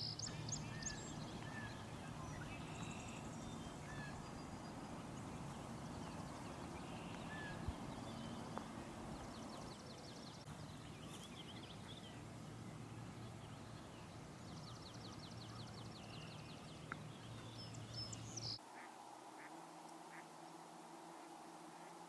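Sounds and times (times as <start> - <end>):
bird chirps: 0.0 - 18.6
steady low rumble: 0.2 - 18.4.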